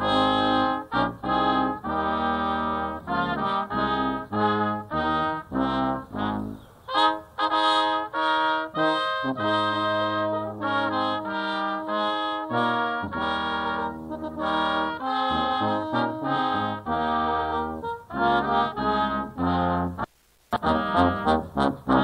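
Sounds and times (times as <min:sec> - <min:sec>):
brass band playing slow chords: 0:00.0 - 0:22.0.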